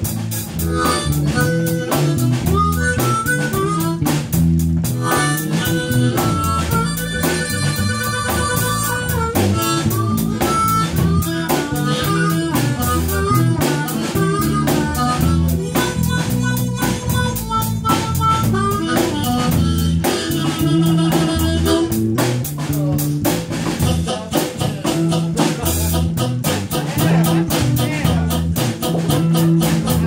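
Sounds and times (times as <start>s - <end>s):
harmonica: 0.0s - 30.0s
live blues band playing: 0.0s - 30.0s.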